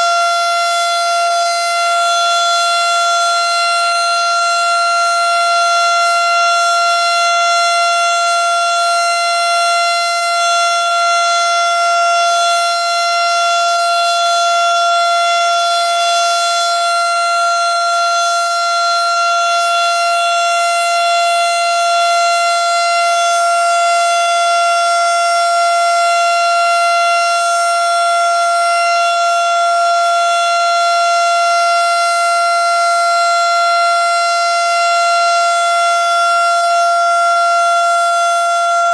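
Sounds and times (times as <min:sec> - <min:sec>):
outdoor warning siren: 0:00.0 - 0:38.9.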